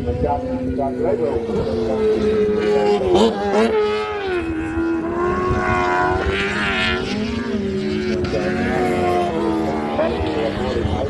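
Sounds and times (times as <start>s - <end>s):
racing engines passing at high revs: 0.0s - 11.0s.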